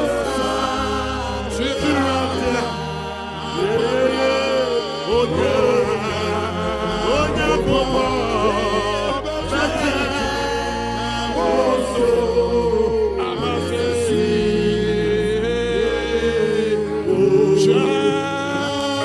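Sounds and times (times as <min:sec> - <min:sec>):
person singing worship music: 0:00.0 - 0:19.0
sustained bass notes: 0:00.0 - 0:19.0.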